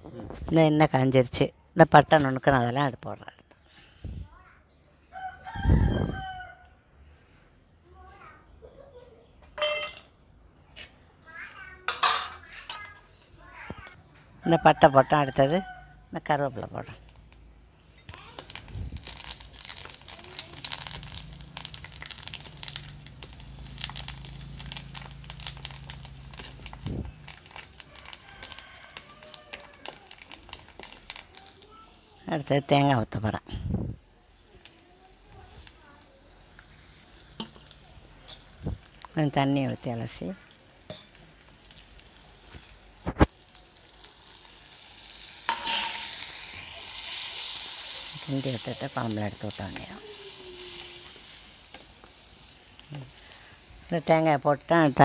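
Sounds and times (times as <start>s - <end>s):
leaves frying in hot oil: 5.1s - 6.6s, 7.8s - 55.0s.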